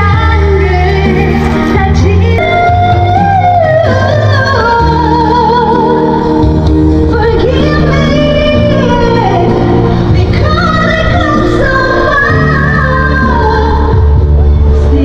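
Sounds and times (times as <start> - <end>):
bass and instrumental backing: 0.0 - 15.0
woman singing: 0.0 - 15.0.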